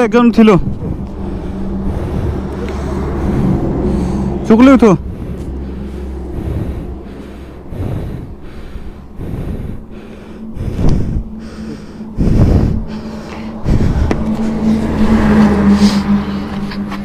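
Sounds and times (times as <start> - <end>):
steady low hum: 0.0 - 17.0
heavy irregular breathing: 0.4 - 17.0.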